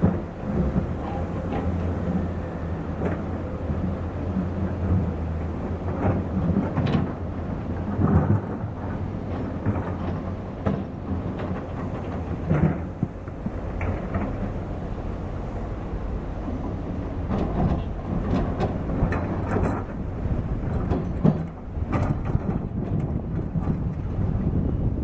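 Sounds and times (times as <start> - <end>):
diesel machinery engine rumble: 0.0 - 25.0.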